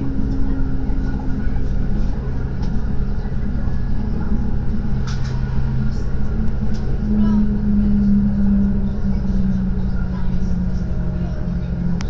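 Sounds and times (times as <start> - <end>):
diesel engine drone: 0.0 - 12.0
wheels rumbling on track: 0.0 - 12.0.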